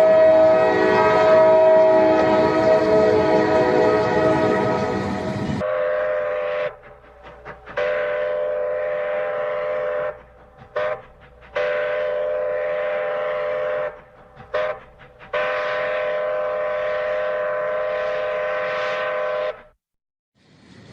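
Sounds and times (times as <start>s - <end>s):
multi-tone train horn blasts: 0.0s - 19.8s.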